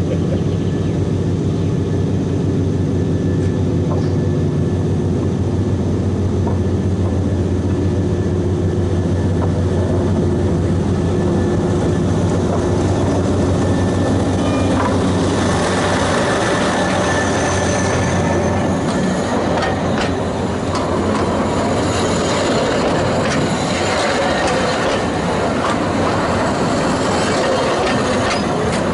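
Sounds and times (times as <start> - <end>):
diesel locomotive engine droning: 0.0 - 28.9.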